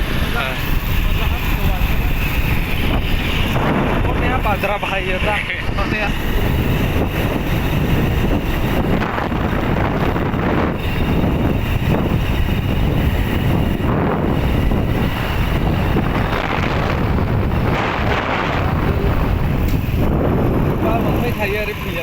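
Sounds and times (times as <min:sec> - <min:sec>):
motorcycle engine: 0:00.0 - 0:22.0
road noise: 0:00.0 - 0:22.0
wind roaring over microphone: 0:00.0 - 0:22.0.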